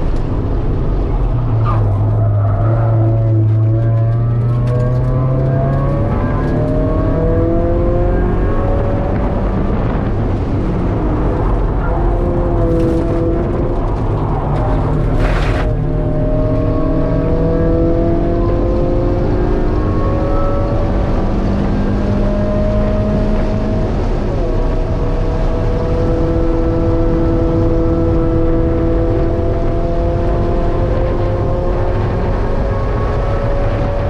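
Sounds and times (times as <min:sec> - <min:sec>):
car engine accelerating: 0:00.0 - 0:34.0
road and wind noise: 0:00.0 - 0:34.0.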